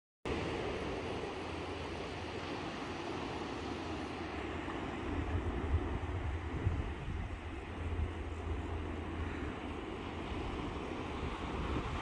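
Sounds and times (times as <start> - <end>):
surf hissing over flat: 0.3 - 12.0
wind rumbling on microphone: 0.3 - 12.0.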